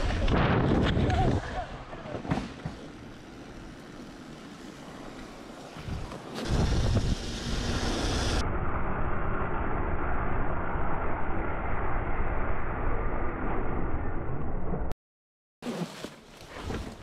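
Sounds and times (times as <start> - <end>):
wind and road noise: 0.0 - 14.9.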